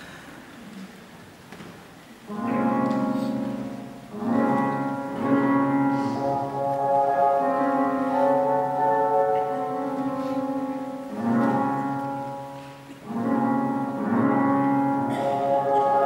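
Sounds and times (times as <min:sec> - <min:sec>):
classical piano music: 0:02.3 - 0:16.0.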